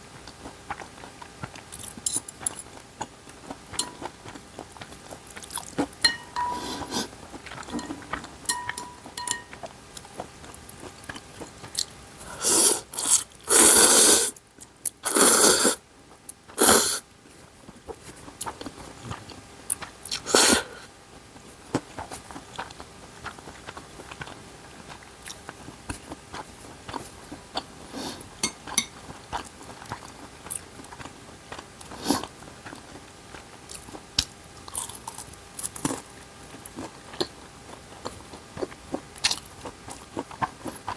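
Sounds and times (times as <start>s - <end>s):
chewing and biting food: 0.0s - 15.4s, 16.0s - 40.9s.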